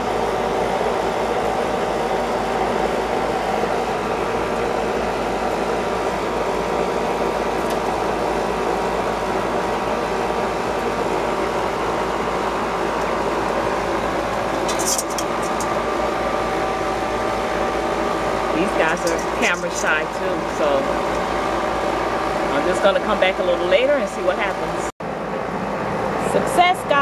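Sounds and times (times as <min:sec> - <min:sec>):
faint constant hum: 0:00.0 - 0:27.0
steady mechanical drone: 0:00.0 - 0:27.0.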